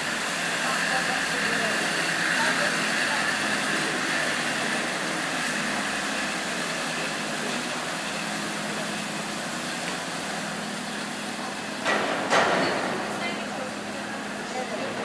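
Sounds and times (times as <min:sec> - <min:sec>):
boat engine hum: 0:00.0 - 0:15.0.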